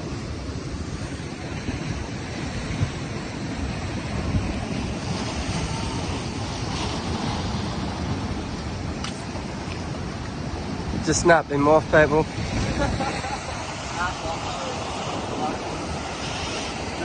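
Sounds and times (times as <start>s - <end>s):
surf breaking against rocks: 0.0s - 17.0s
wind buffeting microphone: 0.0s - 17.0s.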